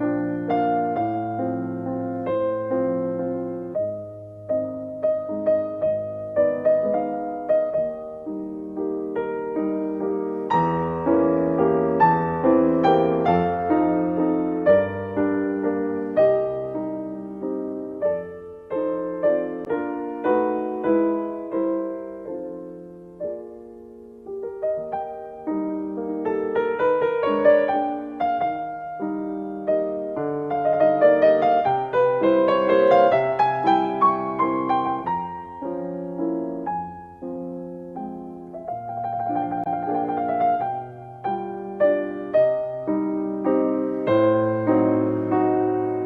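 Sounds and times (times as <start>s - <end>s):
slow gentle piano music: 0.0s - 46.0s.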